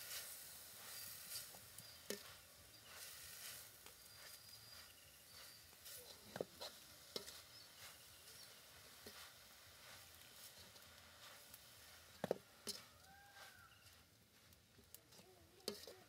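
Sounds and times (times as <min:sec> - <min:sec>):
spatula scraping and knocking wok: 0:00.0 - 0:14.1, 0:14.8 - 0:16.0
vegetables frying in a wok: 0:00.0 - 0:16.0.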